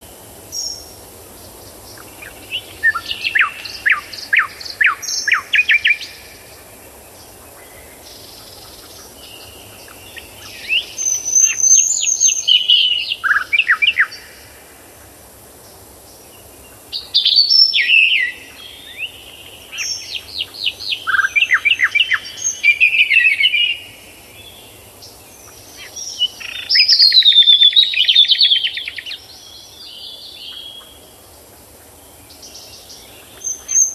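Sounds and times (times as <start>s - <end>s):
songbird singing trills: 0.0s - 33.9s.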